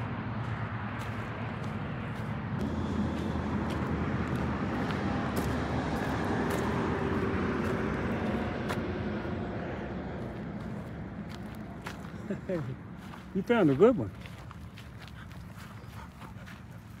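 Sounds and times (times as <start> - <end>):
highway traffic rush and hum: 0.0 - 17.0.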